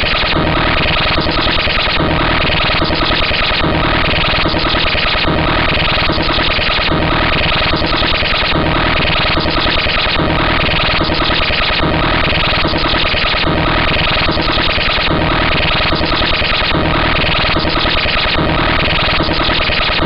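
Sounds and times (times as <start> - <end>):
buzzy synthesized computer loop: 0.0 - 20.0.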